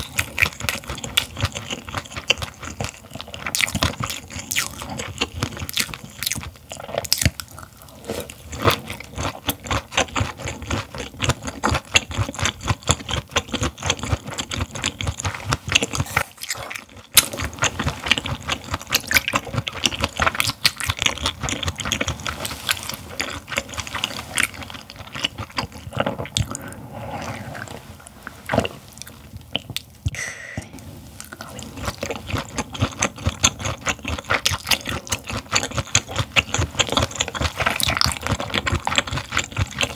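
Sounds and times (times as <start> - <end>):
wet chewing and crunching: 0.0 - 30.2, 31.1 - 39.9.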